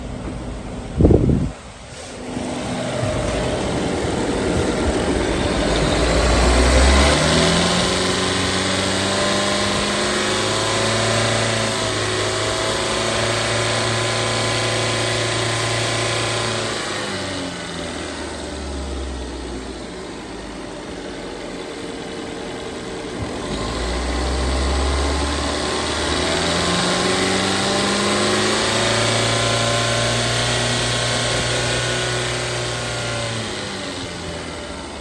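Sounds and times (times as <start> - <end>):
car engine starting and idling: 0.0 - 35.0.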